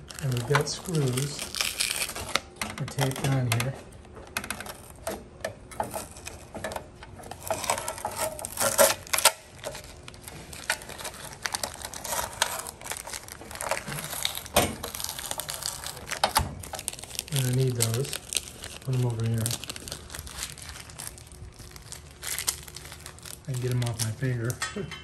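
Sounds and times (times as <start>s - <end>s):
packing tape peeling off metal: 0.0s - 3.7s, 4.3s - 24.6s
plastic bag crinkling: 0.0s - 3.8s, 7.3s - 24.6s.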